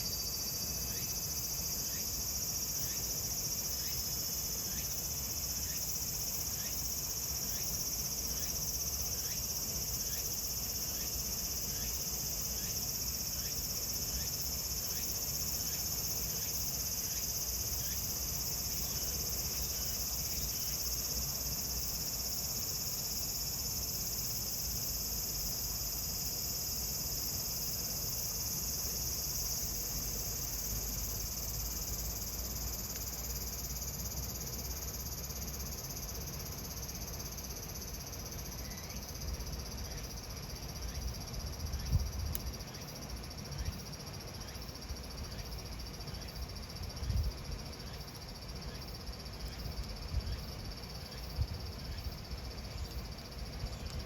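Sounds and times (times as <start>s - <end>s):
cicadas chorus: 0.0s - 54.0s.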